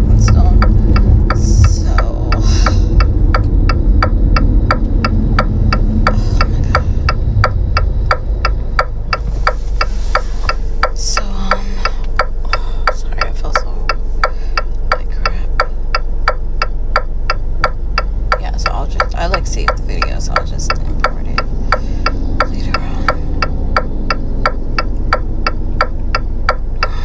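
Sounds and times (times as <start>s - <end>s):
engine and road rumble: 0.0s - 27.0s
turn signal clicking: 0.0s - 27.0s.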